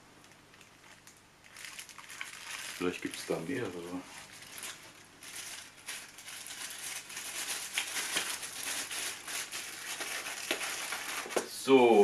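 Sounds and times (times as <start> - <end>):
plastic bag crinkling: 0.2 - 11.5.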